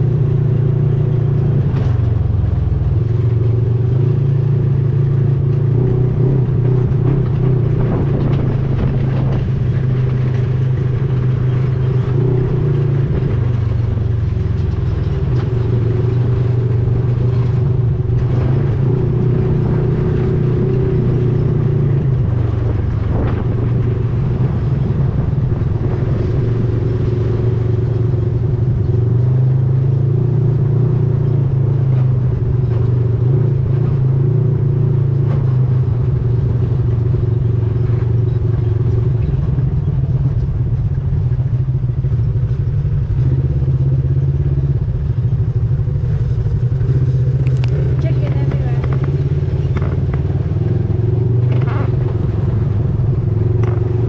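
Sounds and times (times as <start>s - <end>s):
vehicle engine running loudly: 0.0s - 54.0s.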